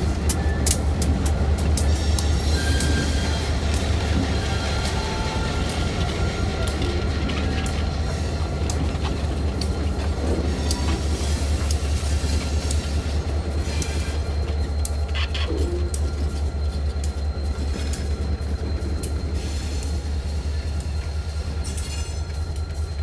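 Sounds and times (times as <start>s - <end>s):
diesel locomotive engine rumble: 0.0s - 23.0s.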